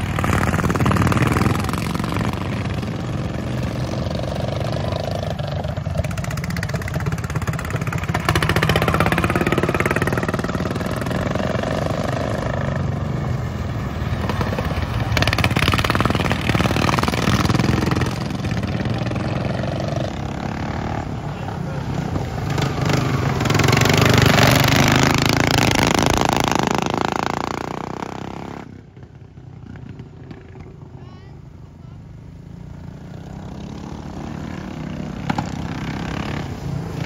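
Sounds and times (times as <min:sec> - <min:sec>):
lawn mower engines racing: 0:00.0 - 0:37.0.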